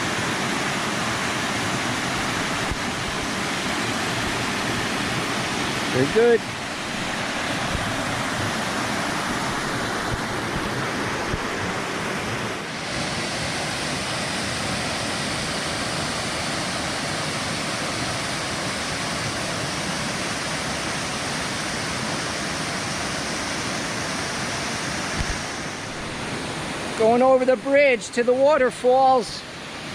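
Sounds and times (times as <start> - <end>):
stream and waterfall rushing: 0.0 - 29.9.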